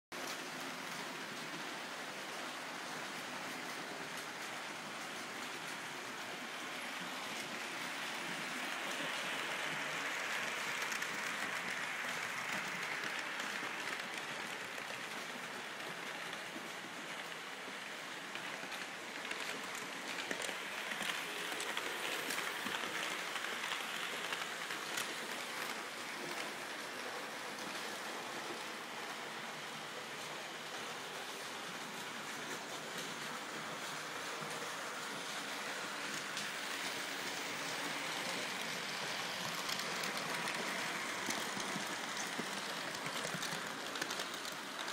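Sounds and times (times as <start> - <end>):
model trains rattling on track: 0.2 - 44.9.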